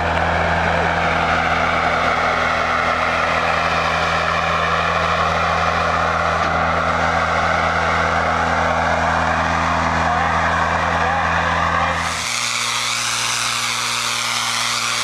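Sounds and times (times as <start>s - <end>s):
blower air rushing through hose: 0.0s - 15.0s
patching machine engine hum: 0.0s - 15.0s.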